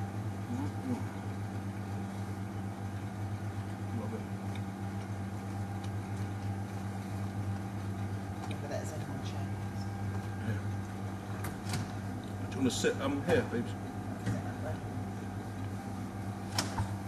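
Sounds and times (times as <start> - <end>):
fridge electric hum: 0.0 - 17.0.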